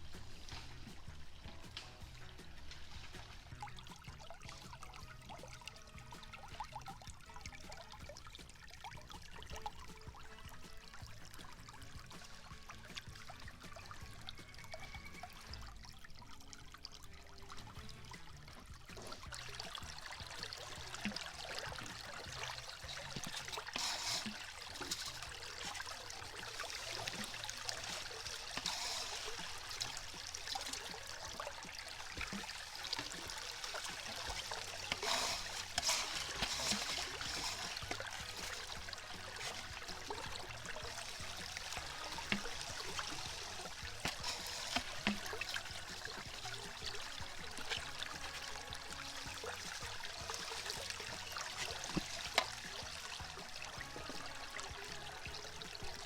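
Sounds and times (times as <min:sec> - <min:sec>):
water running through a sluice: 0:00.0 - 0:56.0.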